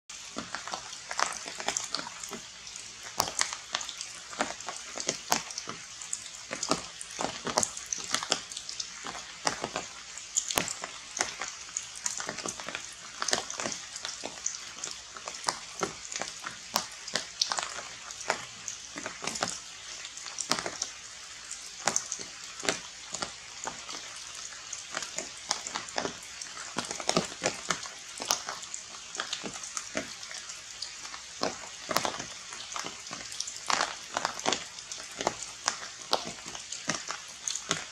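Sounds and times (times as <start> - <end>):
rain falling on leaves: 0.1 - 37.9.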